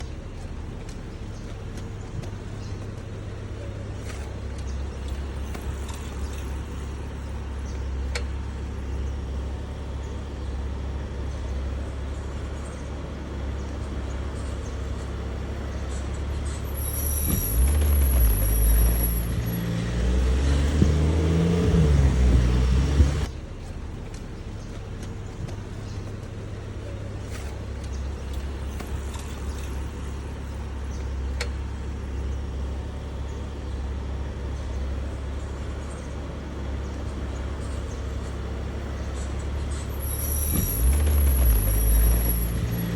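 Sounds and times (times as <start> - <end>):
street noise: 0.0 - 42.9
vehicle engine rumbling: 0.0 - 42.9.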